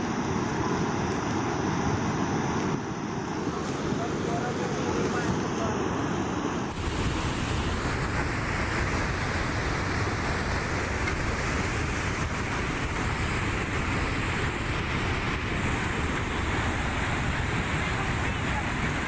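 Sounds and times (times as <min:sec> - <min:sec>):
torrent of water and debris rushing: 0:00.0 - 0:19.0.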